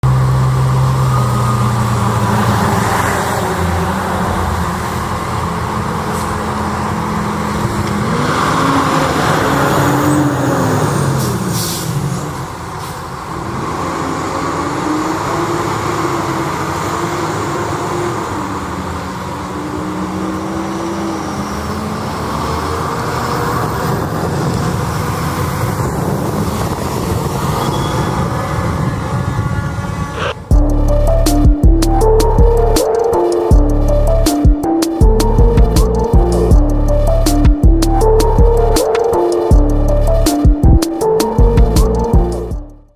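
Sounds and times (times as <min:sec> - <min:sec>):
fire engine diesel engine: 0:00.0 - 0:42.7
traffic noise: 0:00.0 - 0:42.9.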